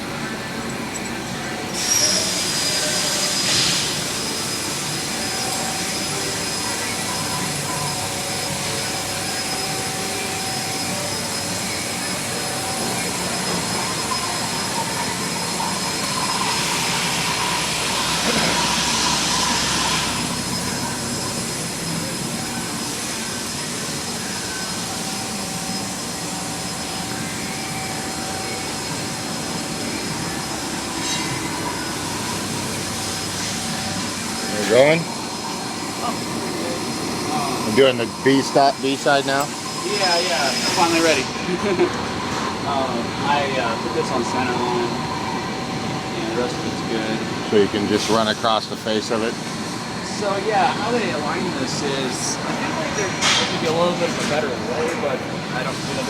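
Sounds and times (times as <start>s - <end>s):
machine whines: 0.0s - 56.0s
machine whirring hiss: 0.0s - 56.0s.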